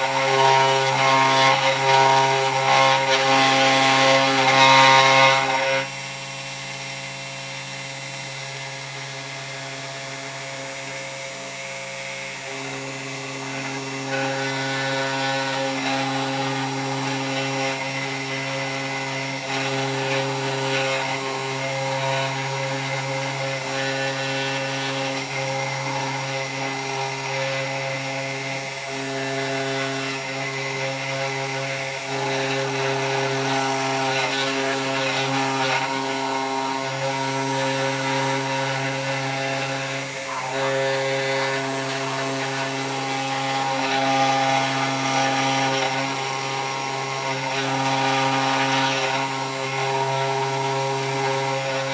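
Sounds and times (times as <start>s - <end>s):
rasping wood cutting: 0.0s - 51.9s
router motor hum: 0.0s - 51.9s.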